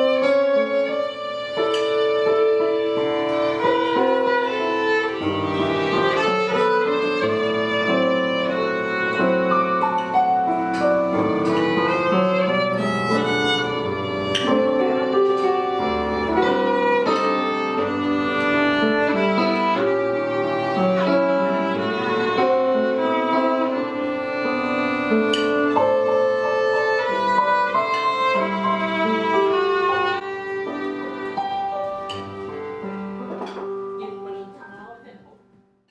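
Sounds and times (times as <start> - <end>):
violin melody with vibrato: 0.0 - 33.4
musical accompaniment: 0.0 - 35.1.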